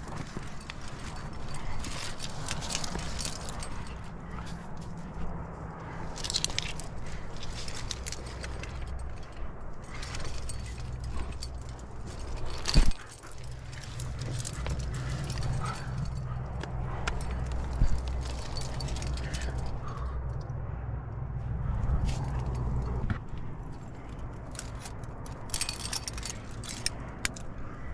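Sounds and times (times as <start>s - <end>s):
climbing gear clinking: 0.0s - 20.6s, 21.5s - 27.9s
steady low rumble: 0.0s - 27.9s.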